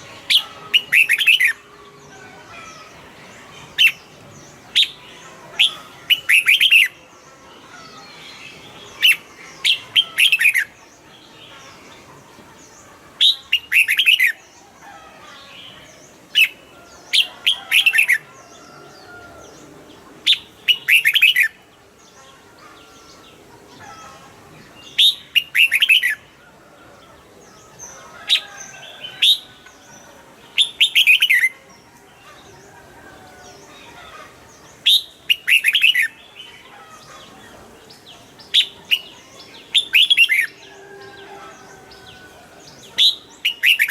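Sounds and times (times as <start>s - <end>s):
bulbul singing: 0.0s - 14.7s, 15.4s - 26.4s, 27.0s - 43.9s.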